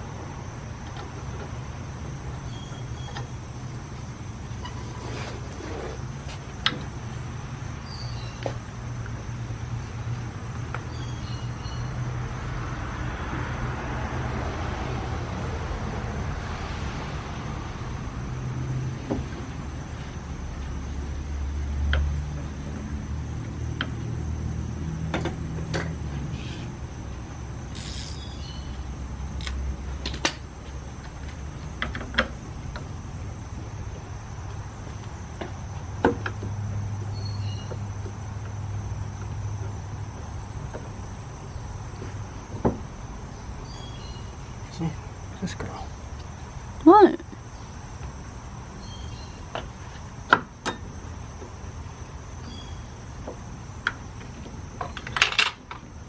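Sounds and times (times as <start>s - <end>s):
low vehicle rumble: 0.0s - 56.0s.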